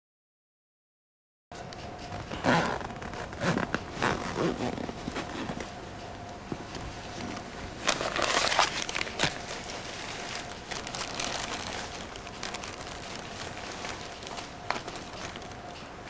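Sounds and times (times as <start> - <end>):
gloved hands rustling cloth: 1.8 - 16.0.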